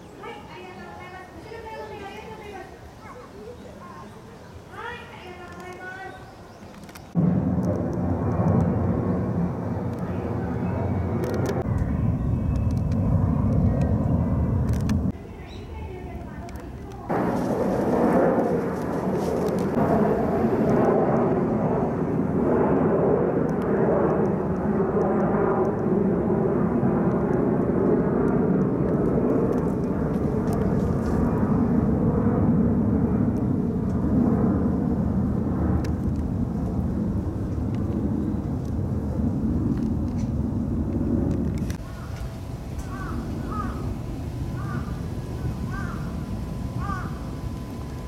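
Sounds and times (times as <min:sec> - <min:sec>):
jet airliner rumble: 0:00.0 - 0:48.0.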